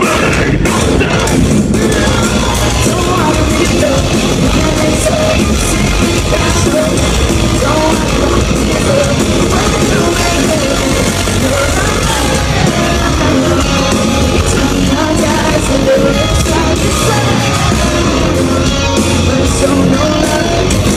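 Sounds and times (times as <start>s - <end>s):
metalcore band playing live: 0.0s - 20.9s
person singing: 0.0s - 20.9s.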